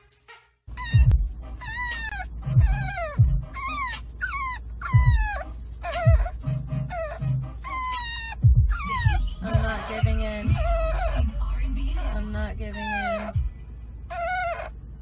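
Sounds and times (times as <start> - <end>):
puppy whining: 0.7 - 13.5, 14.1 - 14.8
steady low rumble: 0.7 - 15.0.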